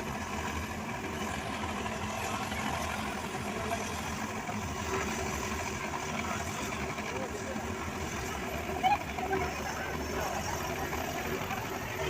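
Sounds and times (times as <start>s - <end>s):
helicopter engine running: 0.0s - 12.0s.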